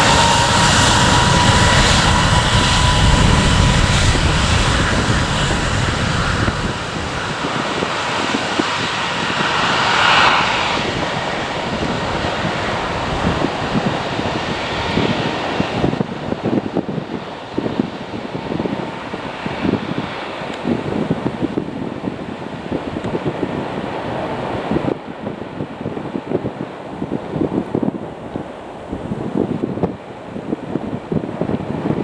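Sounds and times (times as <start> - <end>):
jet engines rumbling and whining: 0.0 - 25.7
wind noise on microphone: 0.0 - 32.0.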